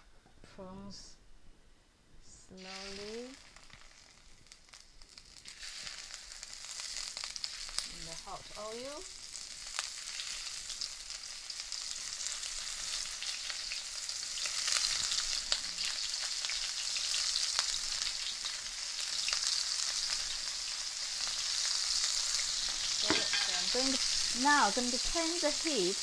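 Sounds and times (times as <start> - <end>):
prawns sizzling in oil: 2.4 - 26.0.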